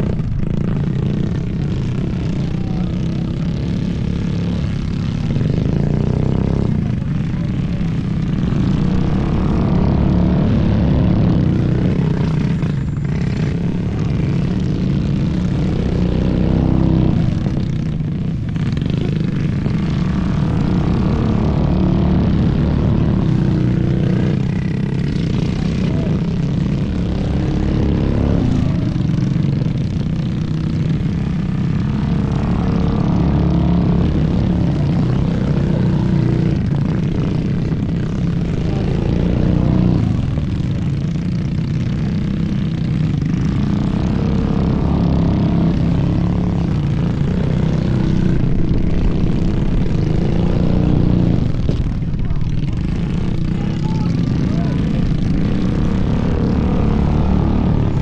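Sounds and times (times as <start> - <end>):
small engines revving: 0.0 - 58.0.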